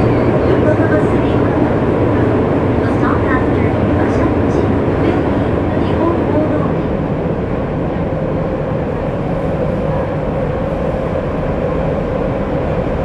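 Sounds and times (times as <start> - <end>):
subway train rumbling in tunnel: 0.0 - 13.0.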